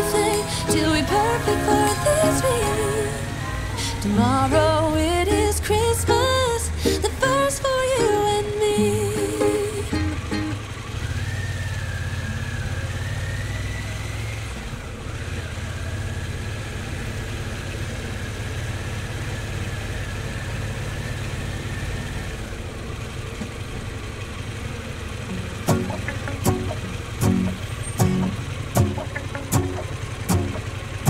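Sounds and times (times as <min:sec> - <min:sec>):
motorcycle engine rumble: 0:00.0 - 0:31.0.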